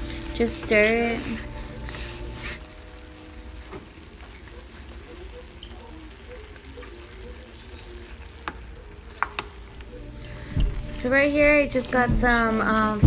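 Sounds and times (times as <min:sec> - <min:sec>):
meat and onion sizzling in a skillet: 0:00.0 - 0:13.0.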